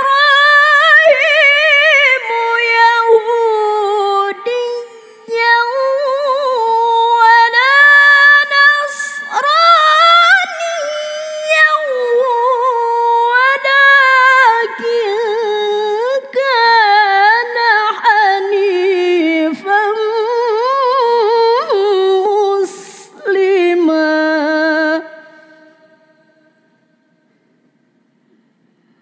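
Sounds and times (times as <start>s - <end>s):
woman reciting melodically: 0.0s - 26.9s.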